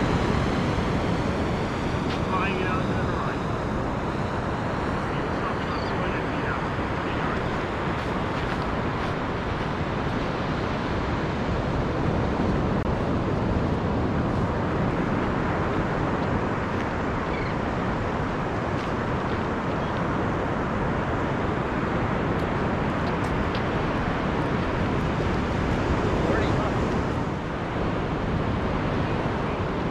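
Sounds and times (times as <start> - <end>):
surf: 0.0 - 29.9
wind buffeting microphone: 0.0 - 29.9.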